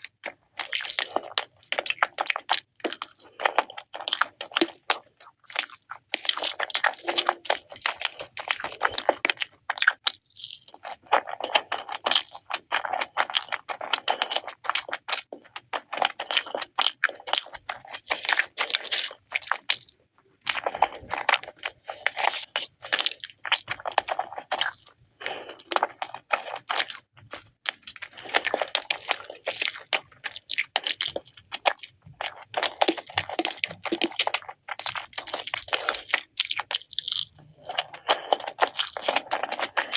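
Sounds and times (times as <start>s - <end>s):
crunching crispy fried chicken: 0.0s - 39.9s.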